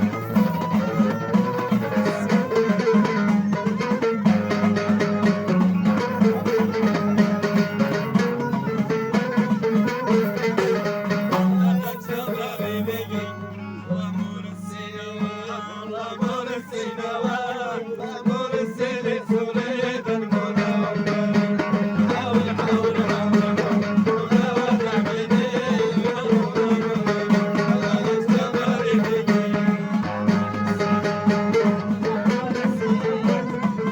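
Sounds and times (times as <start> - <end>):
hand drum rhythm: 0.0 - 13.4, 16.2 - 33.9
plucked string instrument: 0.0 - 33.9.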